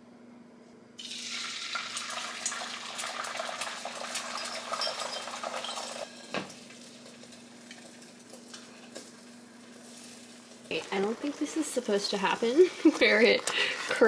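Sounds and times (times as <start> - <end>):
eggs sizzling in a skillet: 1.0 - 14.0.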